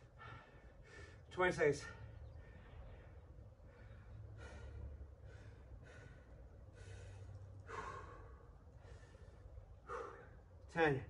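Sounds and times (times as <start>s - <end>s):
man breathing hard: 0.0s - 10.7s.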